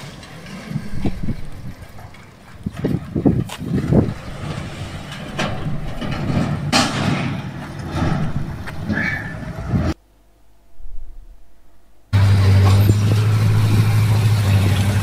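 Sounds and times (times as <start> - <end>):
distant heavy machinery rumble: 0.0 - 10.0, 10.8 - 15.0.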